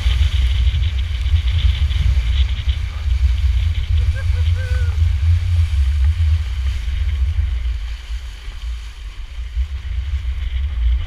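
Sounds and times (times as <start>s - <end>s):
water rushing along hulls: 0.0s - 11.0s
wind buffeting microphone: 0.0s - 11.0s.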